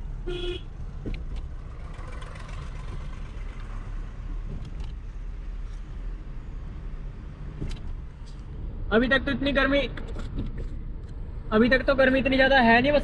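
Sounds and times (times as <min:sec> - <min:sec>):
car engine and tyres rumbling: 0:00.0 - 0:13.0
road and wind noise hiss: 0:00.0 - 0:13.0.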